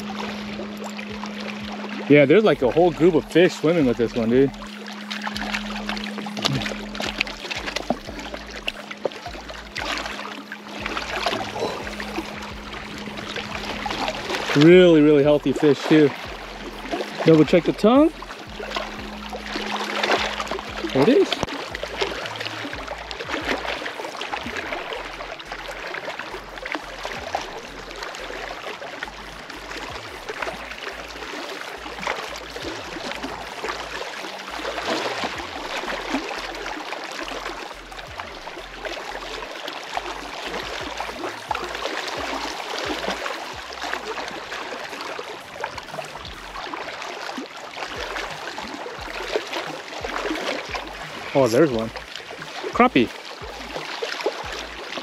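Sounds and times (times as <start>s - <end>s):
waves lapping and splashing: 0.0s - 55.0s.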